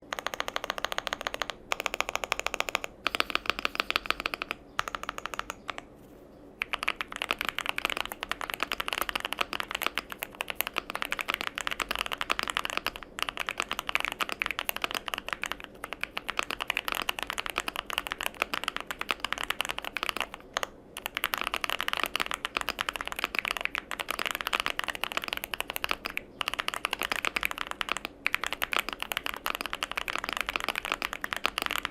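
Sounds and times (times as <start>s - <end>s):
mechanical keyboard typing: 0.0s - 5.9s, 6.6s - 31.9s.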